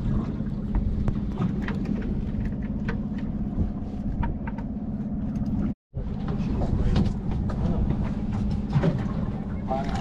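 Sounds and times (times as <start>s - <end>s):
outboard engine humming: 0.0s - 10.0s.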